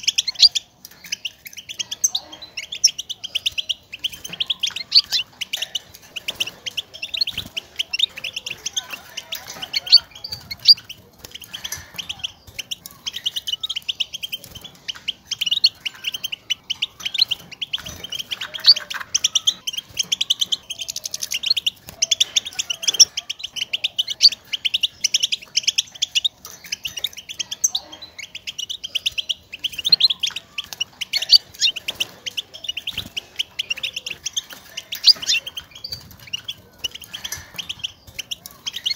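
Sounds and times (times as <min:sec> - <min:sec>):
finch twittering calls: 0:00.0 - 0:38.9.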